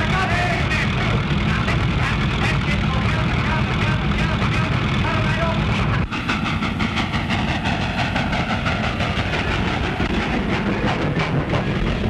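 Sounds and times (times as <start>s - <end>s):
steam locomotive chuffing: 0.0s - 12.0s
wheels clattering on rails: 0.0s - 12.0s.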